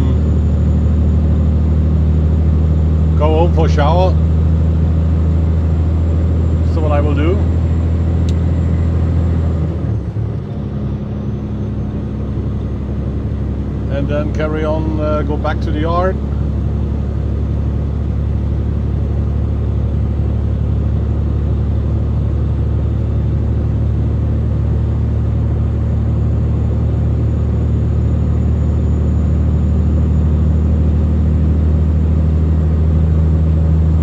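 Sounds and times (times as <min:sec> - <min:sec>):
diesel truck engine droning: 0:00.0 - 0:34.0.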